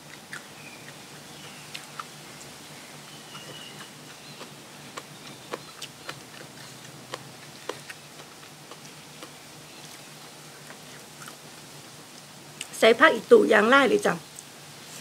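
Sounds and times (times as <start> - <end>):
crunchy chewing: 0.0 - 12.7.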